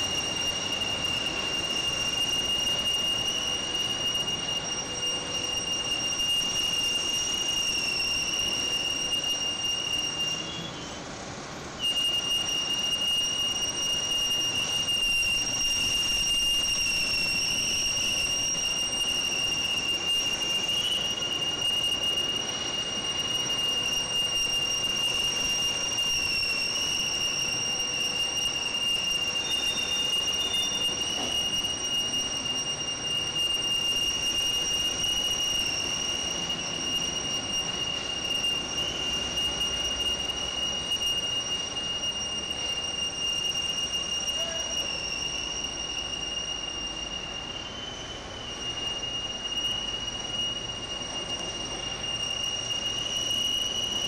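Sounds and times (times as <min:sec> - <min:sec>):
machinery high-pitched whine: 0:00.0 - 0:54.0.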